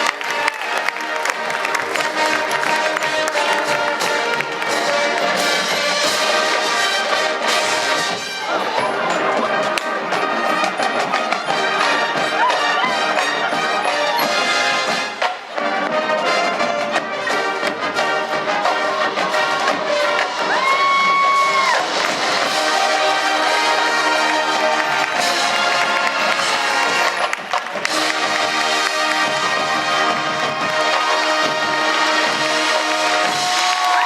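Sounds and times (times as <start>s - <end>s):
brass section: 0.0s - 34.0s
drumline percussion: 0.0s - 34.0s.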